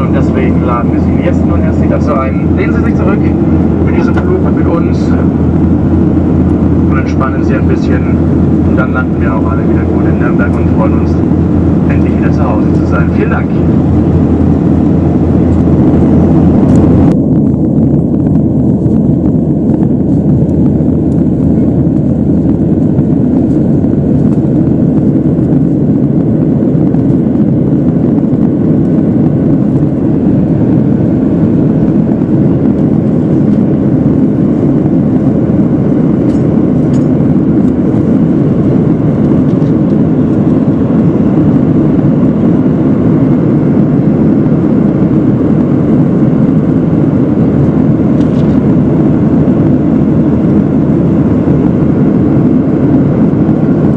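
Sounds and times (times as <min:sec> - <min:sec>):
airliner cabin engine rush: 0:00.0 - 0:53.9.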